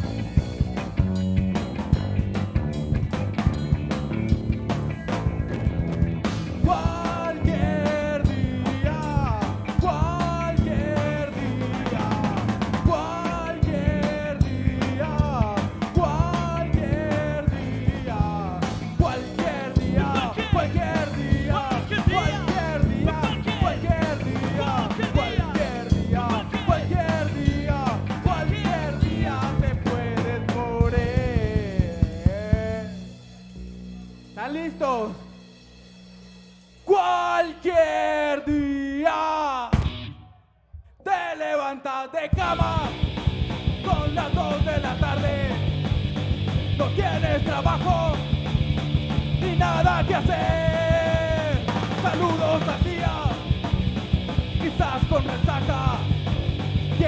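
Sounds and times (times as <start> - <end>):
rock band playing live: 0.0 - 37.4, 39.8 - 40.2, 42.4 - 57.0.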